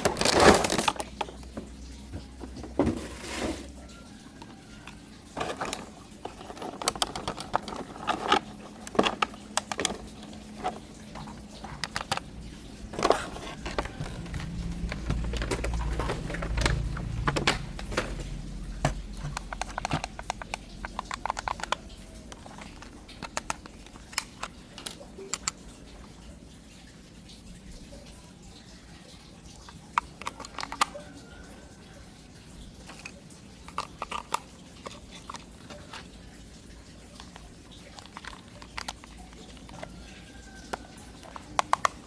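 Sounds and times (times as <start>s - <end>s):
small objects clicking and rustling: 0.0s - 3.4s, 4.3s - 26.1s, 29.6s - 31.4s, 32.6s - 42.0s.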